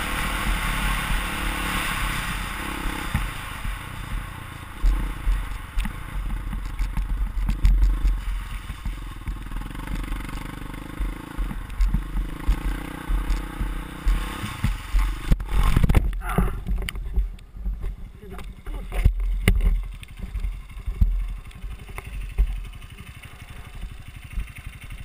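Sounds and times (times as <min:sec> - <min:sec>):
dirt bike engine running: 0:00.0 - 0:25.0
bike knocks and rattles: 0:03.0 - 0:25.0.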